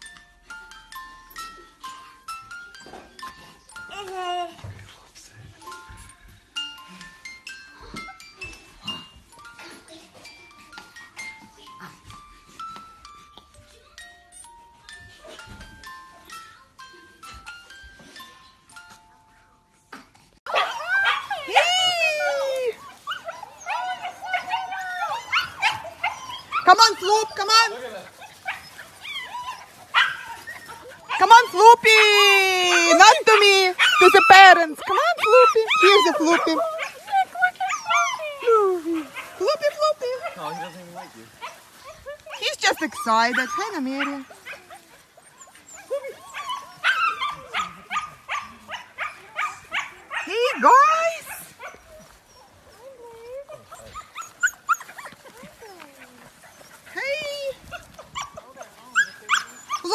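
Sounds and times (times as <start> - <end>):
puppies yipping and whining: 5.6 - 59.9.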